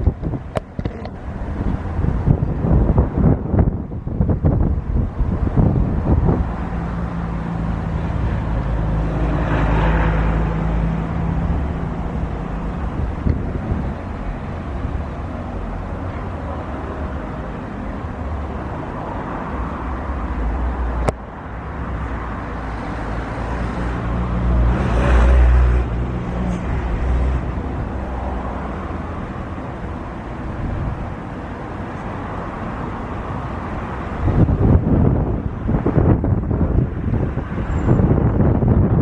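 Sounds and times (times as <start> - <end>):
vehicle engine rumble: 0.0 - 39.0
wind: 0.0 - 39.0.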